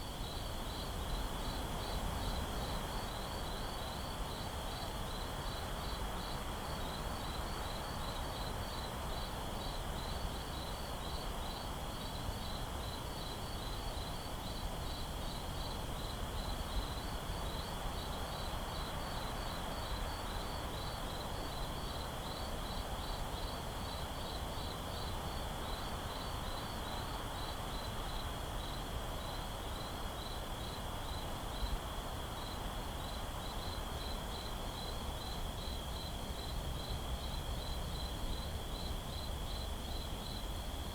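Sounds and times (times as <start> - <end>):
crickets chirping: 1.4 - 40.9.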